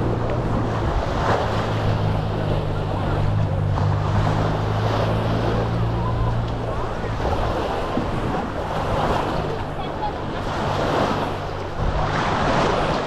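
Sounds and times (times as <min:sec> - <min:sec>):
low motor hum: 0:00.0 - 0:13.0
waves washing on sand: 0:00.0 - 0:13.0
wind on microphone: 0:00.0 - 0:13.0.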